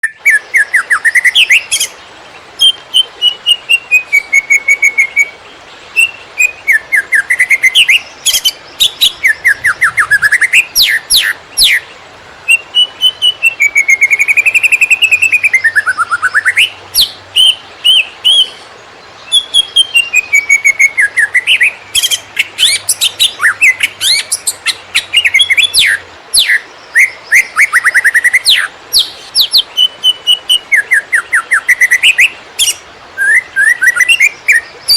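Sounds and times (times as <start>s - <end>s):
songbird chirping and whistling: 0.0s - 2.0s, 2.6s - 5.4s, 6.0s - 34.9s.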